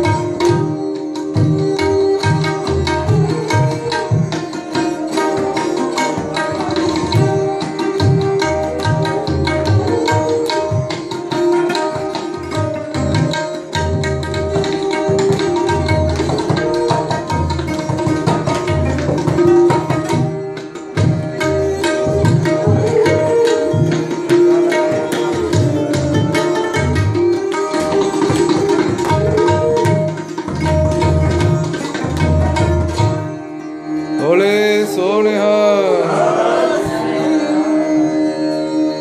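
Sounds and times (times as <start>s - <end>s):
bowed string melody: 0.0s - 39.0s
tabla playing: 0.0s - 39.0s.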